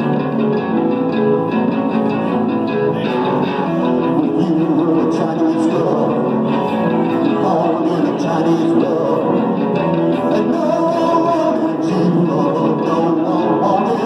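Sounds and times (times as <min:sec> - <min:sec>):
man singing: 0:00.0 - 0:14.0
rock band playing: 0:00.0 - 0:14.0.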